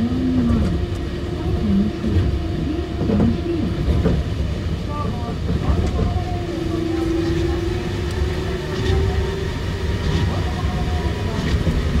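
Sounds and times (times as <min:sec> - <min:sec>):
monorail train rumble: 0:00.0 - 0:12.0.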